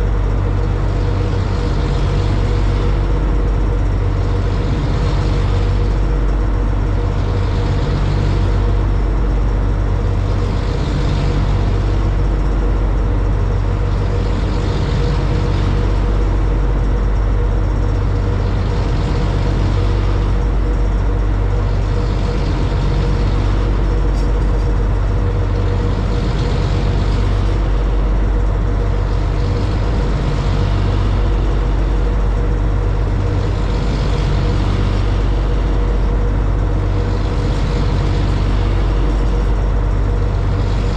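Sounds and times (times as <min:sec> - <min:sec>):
boat engines droning: 0:00.0 - 0:40.9.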